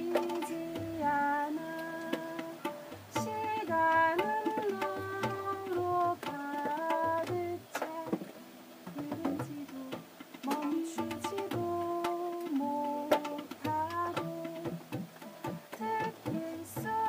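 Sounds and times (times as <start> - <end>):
acoustic melody with sliding notes: 0.0 - 17.0
light percussion hits: 0.0 - 17.0.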